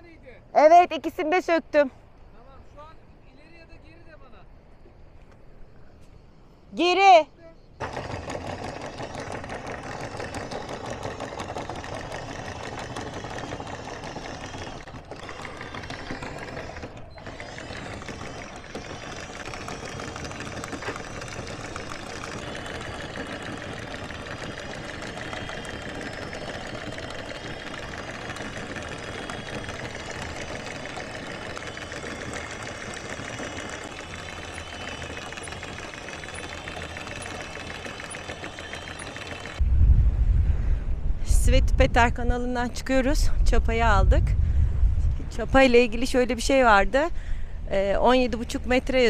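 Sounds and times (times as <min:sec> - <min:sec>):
windlass motor running: 0:04.6 - 0:49.0.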